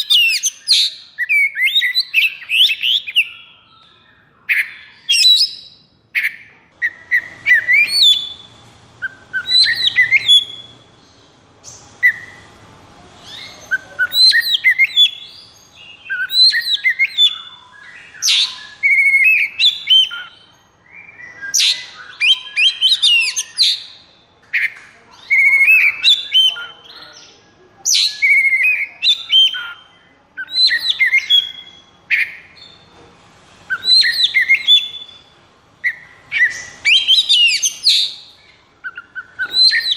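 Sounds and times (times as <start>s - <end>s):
bird singing whistles and trills: 0.0s - 12.5s, 13.2s - 27.2s, 27.9s - 32.9s, 33.7s - 39.9s.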